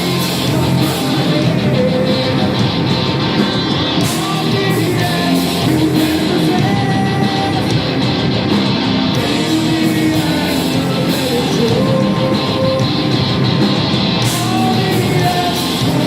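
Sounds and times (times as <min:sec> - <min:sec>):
distorted electric guitars: 0:00.0 - 0:16.0.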